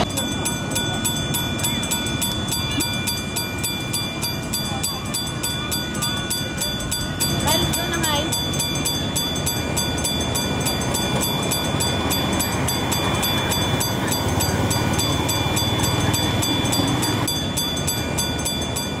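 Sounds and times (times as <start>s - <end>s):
miniature train rumbling on track: 0.0s - 19.0s.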